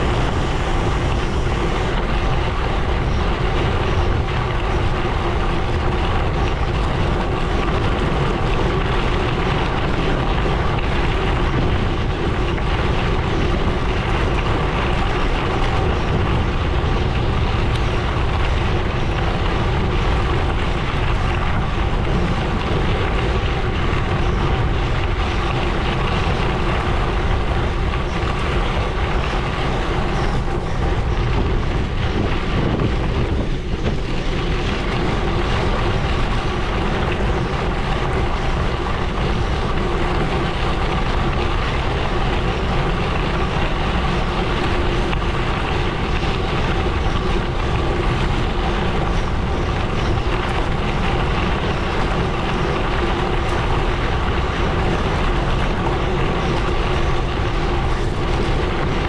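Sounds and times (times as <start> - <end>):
bike tyres crunching over gravel: 0.0 - 59.0
wind on microphone: 0.0 - 59.0.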